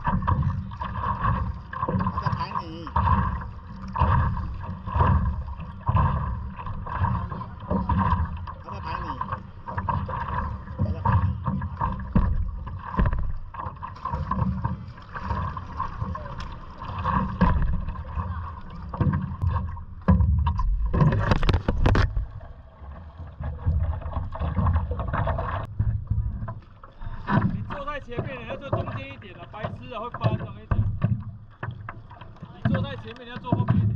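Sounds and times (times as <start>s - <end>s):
water slapping against paddle board: 0.0s - 33.9s
water splash: 0.0s - 33.9s.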